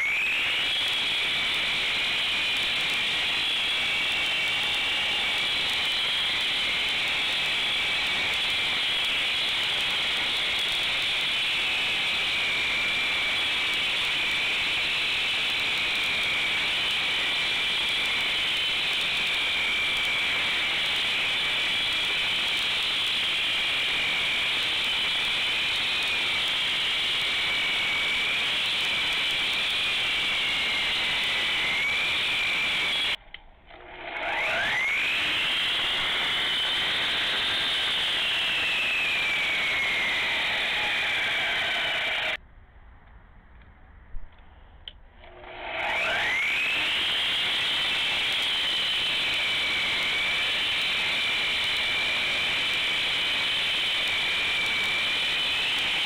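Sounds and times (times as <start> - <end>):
concrete saw whining: 0.0 - 42.4, 45.2 - 56.0.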